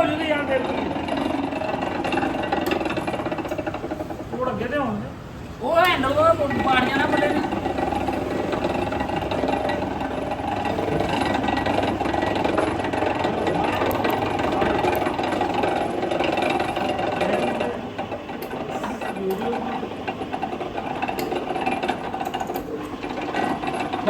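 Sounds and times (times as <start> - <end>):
workshop machine running: 0.0 - 24.0.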